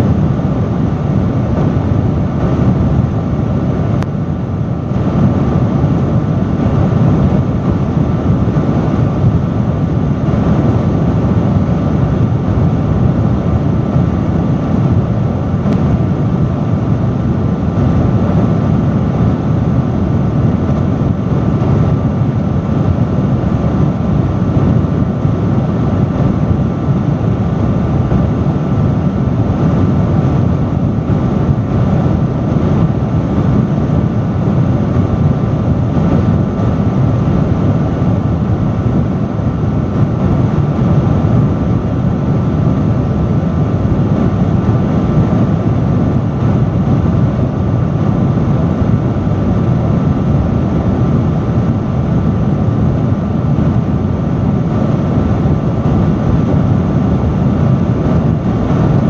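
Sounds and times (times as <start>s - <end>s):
industrial fan running: 0.0s - 59.0s.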